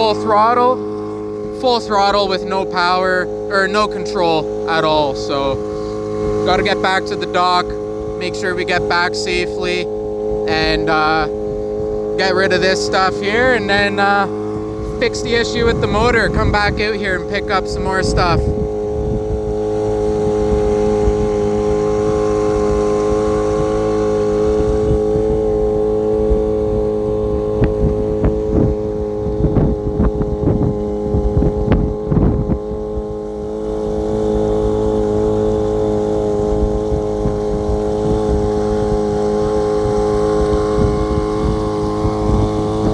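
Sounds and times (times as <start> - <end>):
boat motor at full throttle: 0.0 - 42.9.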